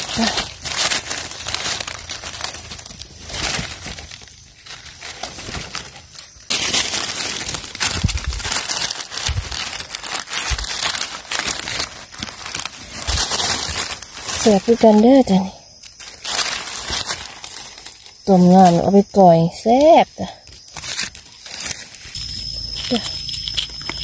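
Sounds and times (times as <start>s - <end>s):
dry leaves rustling and crackling: 0.0s - 24.0s.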